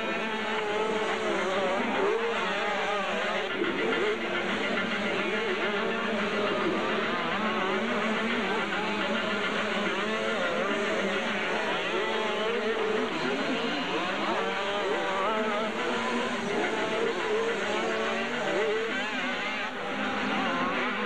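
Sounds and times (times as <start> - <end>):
motorcycle engines racing: 0.0 - 21.0.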